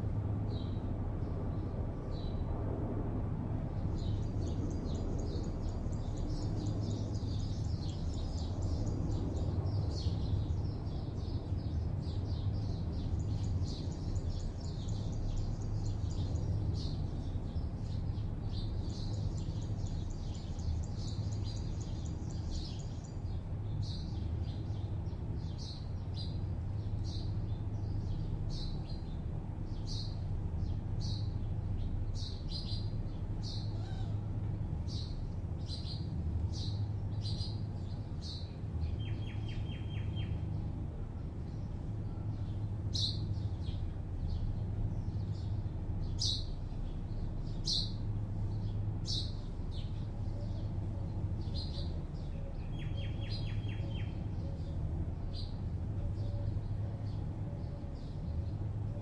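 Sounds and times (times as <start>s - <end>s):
distant city traffic hum: 0.0s - 59.0s
small birds chirping: 3.8s - 59.0s.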